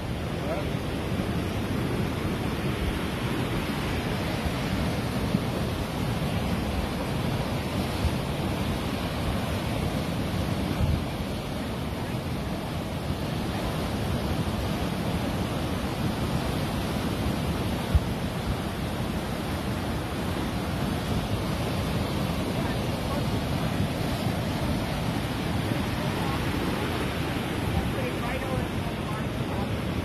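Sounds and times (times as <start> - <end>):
flood water rushing: 0.0 - 30.0.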